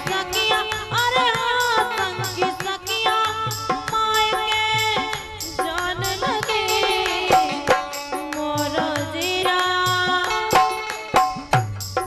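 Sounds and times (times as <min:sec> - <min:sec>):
woman singing folk song: 0:00.0 - 0:11.3
drum strokes: 0:00.0 - 0:12.0
harmonium: 0:00.0 - 0:12.0.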